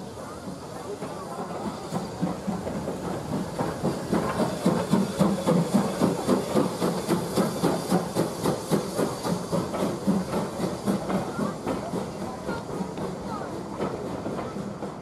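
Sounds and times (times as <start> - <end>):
steam hissing: 0.0 - 15.0
steam locomotive chuffing: 0.0 - 15.0
train carriages rolling: 0.0 - 15.0.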